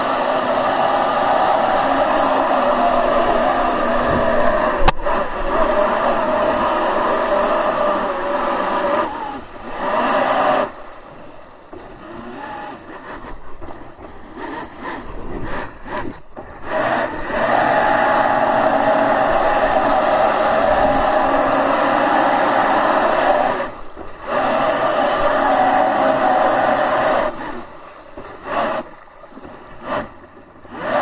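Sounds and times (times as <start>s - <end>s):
electric motor whine: 0.0s - 27.7s.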